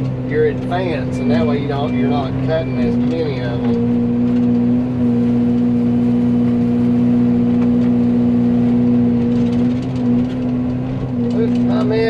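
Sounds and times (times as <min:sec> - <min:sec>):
excavator engine under load: 0:00.0 - 0:12.0
mulching head whining: 0:00.0 - 0:12.0.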